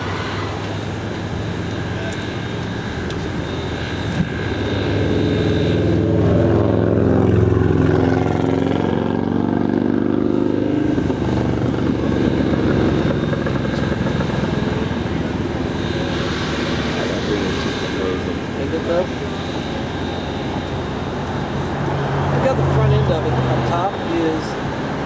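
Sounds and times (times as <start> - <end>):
vehicle driving on highway: 0.0 - 25.0.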